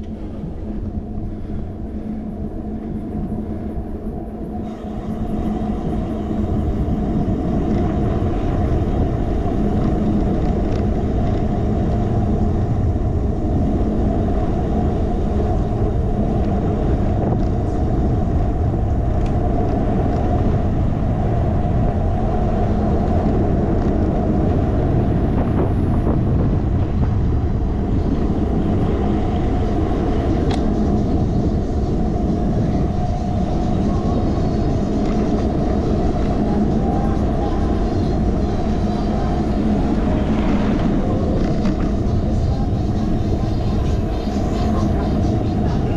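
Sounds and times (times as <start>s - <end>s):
wind and road rumble: 0.0s - 45.9s.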